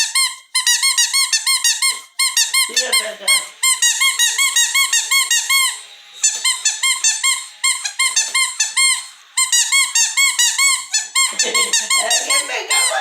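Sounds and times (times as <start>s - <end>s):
squeaky toy ball squeaks: 0.0s - 13.0s.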